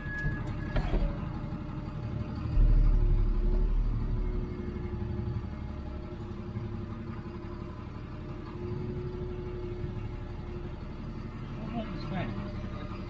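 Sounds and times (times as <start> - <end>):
diesel lorry engine running: 0.0 - 13.0.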